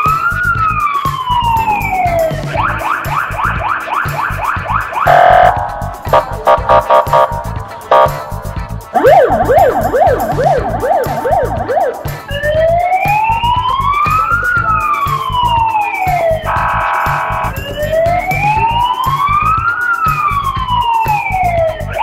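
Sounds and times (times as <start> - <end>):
police siren: 0.0 - 8.3, 9.0 - 22.0
steady low beat: 0.4 - 15.6, 16.2 - 19.6.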